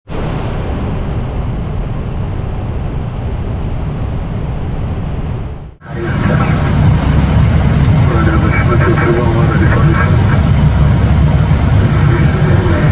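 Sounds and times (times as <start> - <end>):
cockpit air rush and engine hum: 0.1 - 12.9
faint steady tones: 1.8 - 12.9.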